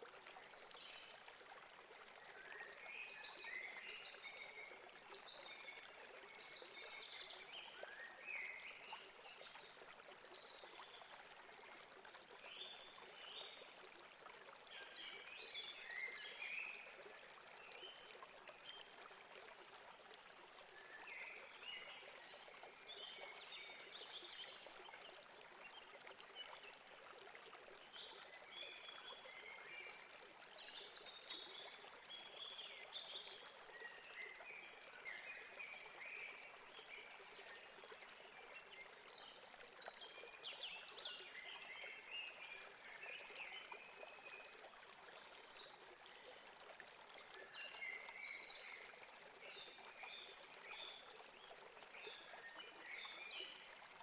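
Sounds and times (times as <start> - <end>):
river water running: 0.0 - 54.0.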